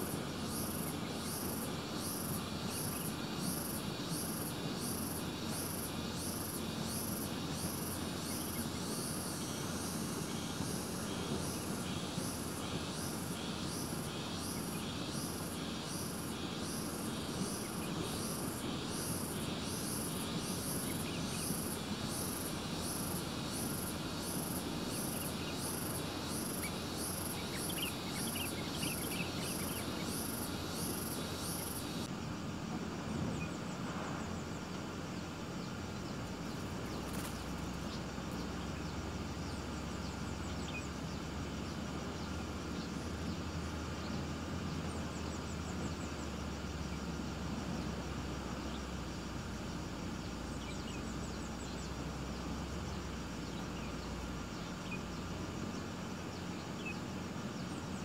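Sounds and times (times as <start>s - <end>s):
insect chirping: 0.0s - 58.0s
low background noise: 0.0s - 58.0s.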